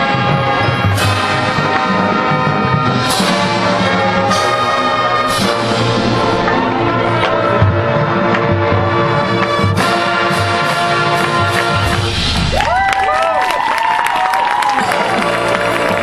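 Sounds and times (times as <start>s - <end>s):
marching band brass: 0.0s - 16.0s.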